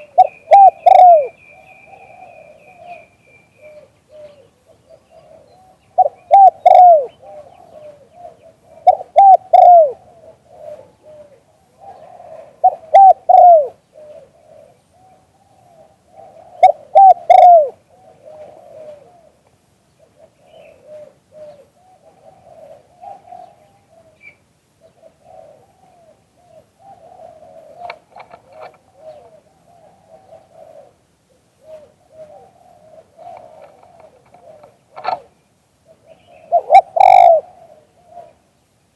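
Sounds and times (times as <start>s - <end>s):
dove cooing: 0.0s - 38.6s.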